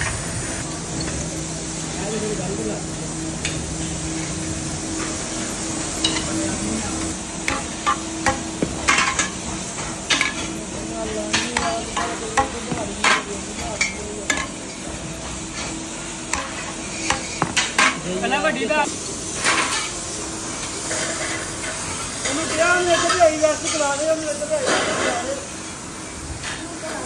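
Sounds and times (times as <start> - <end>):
steady hiss and hum: 0.0 - 27.0.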